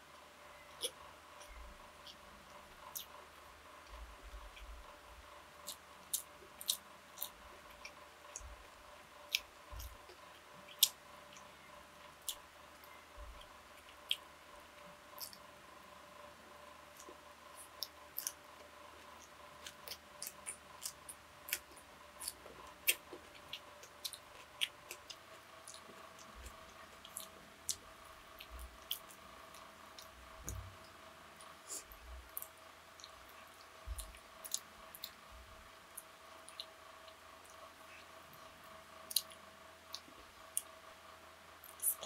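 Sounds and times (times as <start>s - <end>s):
faint steady hum: 0.0s - 42.0s
person chewing and eating: 0.6s - 4.9s, 5.6s - 8.7s, 9.3s - 11.4s, 12.1s - 14.3s, 15.1s - 15.5s, 16.9s - 27.8s, 28.4s - 30.7s, 31.4s - 35.2s, 35.9s - 40.7s.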